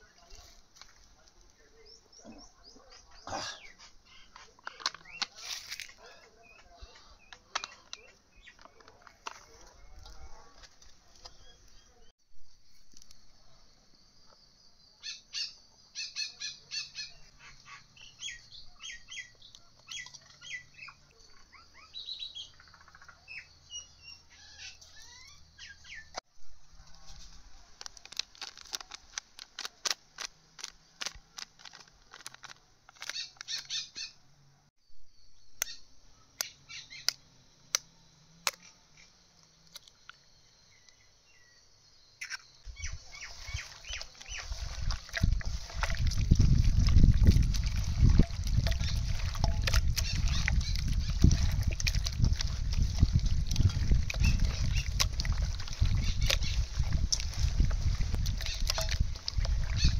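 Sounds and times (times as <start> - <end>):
birds chirping: 0.0 - 12.1, 13.0 - 26.2, 30.5 - 59.9.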